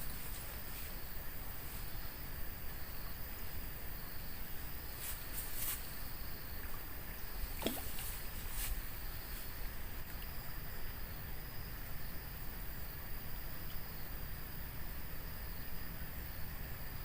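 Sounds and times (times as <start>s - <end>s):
thin high hum: 0.0s - 14.2s.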